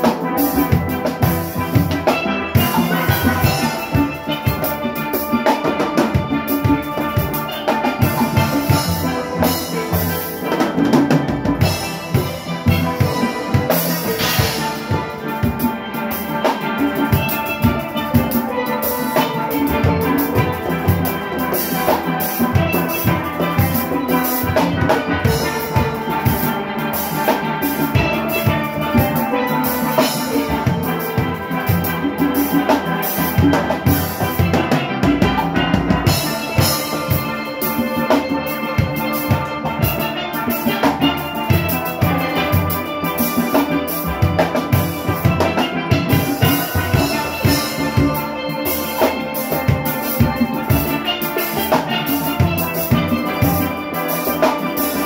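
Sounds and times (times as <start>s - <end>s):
drum kit and percussion rhythm: 0.0s - 55.0s
steelpan melody: 0.0s - 55.0s.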